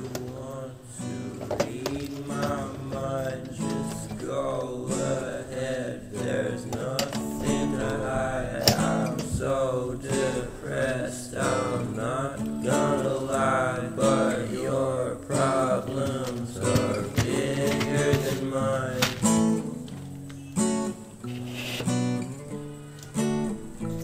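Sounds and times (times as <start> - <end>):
song with strummed acoustic guitar: 0.0 - 24.0.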